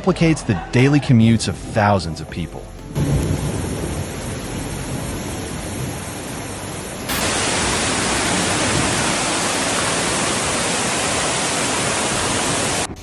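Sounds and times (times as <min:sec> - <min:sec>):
rushing water: 0:01.1 - 0:13.0.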